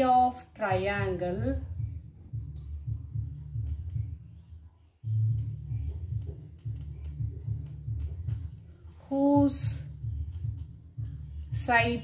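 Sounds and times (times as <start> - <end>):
marker writing on whiteboard: 1.3 - 8.7, 9.8 - 12.0.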